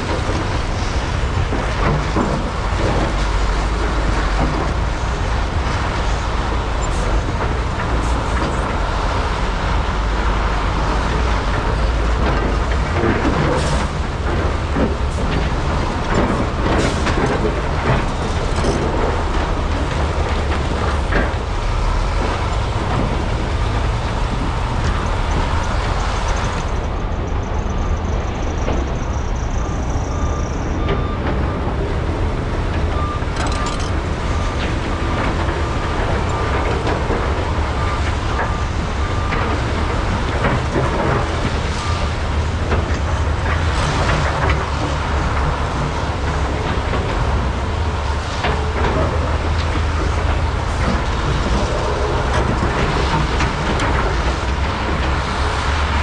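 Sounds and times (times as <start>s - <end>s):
excavator diesel engines rumbling: 0.0s - 56.0s.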